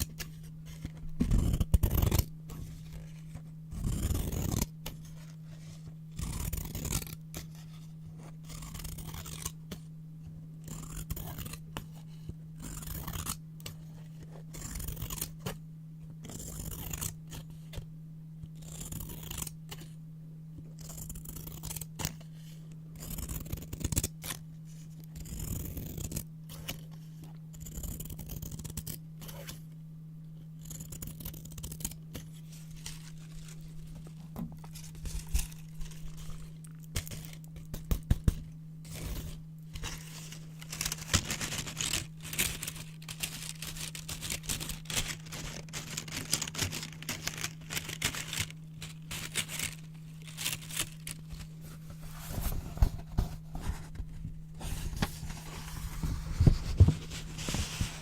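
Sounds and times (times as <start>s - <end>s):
scissors cutting paper: 0.0s - 9.8s, 10.6s - 15.6s, 16.2s - 17.8s, 18.5s - 20.0s, 20.8s - 22.3s, 23.0s - 24.4s, 25.1s - 29.6s, 30.6s - 54.0s
steady low hum: 0.0s - 58.0s.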